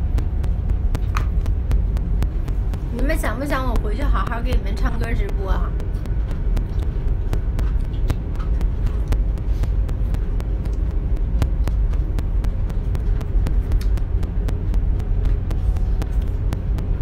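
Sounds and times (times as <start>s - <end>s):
faint regular clicks: 0.0s - 17.0s
train rumble inside cabin: 0.0s - 17.0s.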